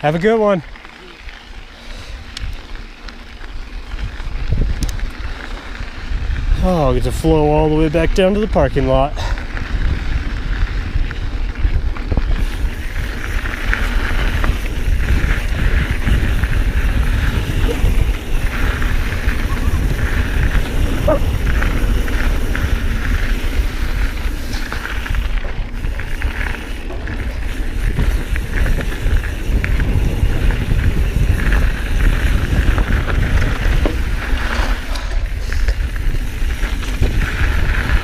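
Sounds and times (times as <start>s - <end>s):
bike rattling and knocking: 0.0s - 38.0s
tyres running over gravel: 0.0s - 38.0s
wind buffeting microphone: 1.2s - 38.0s.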